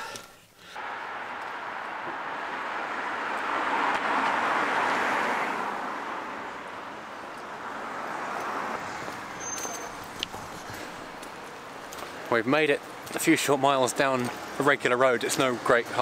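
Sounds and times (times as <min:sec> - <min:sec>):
car passing: 0:00.6 - 0:16.0.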